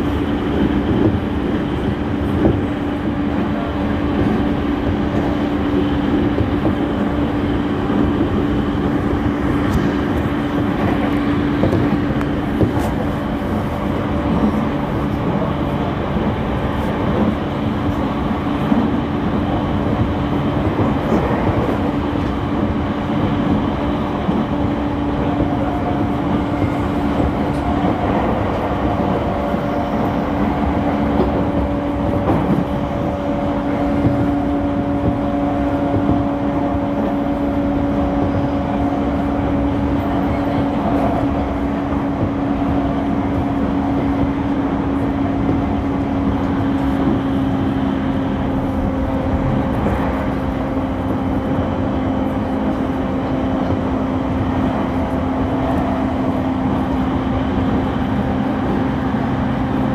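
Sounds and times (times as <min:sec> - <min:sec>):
electric train running: 0:00.0 - 0:59.9.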